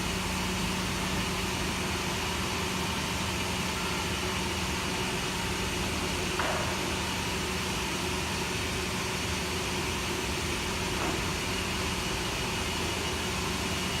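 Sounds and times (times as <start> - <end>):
band sawmill running: 0.0 - 14.0.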